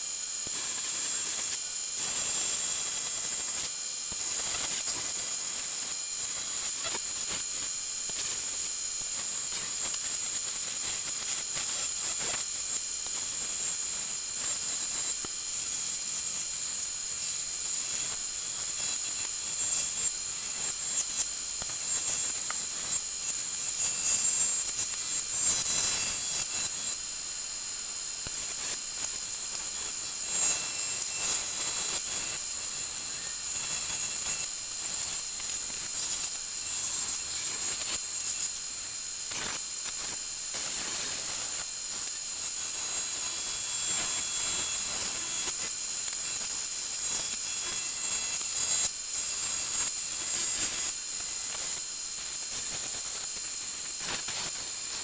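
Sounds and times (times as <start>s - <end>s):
high-pitched hiss with thin tone: 0.0s - 55.0s.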